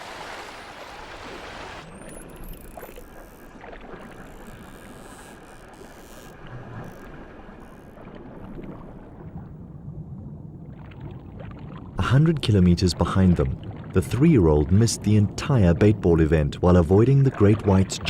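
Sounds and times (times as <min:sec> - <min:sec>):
underwater rushing water: 0:00.0 - 0:18.0.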